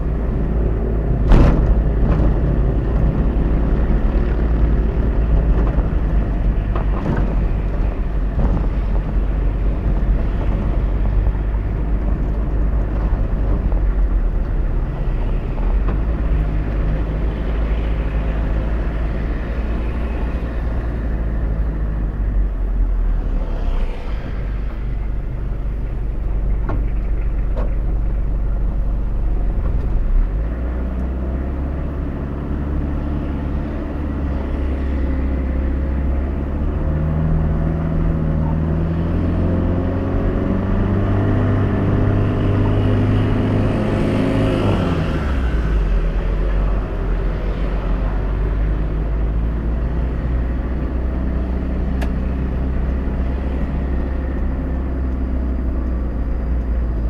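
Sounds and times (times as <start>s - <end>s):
car engine while driving: 0.0s - 57.0s
road noise inside car: 0.0s - 57.0s.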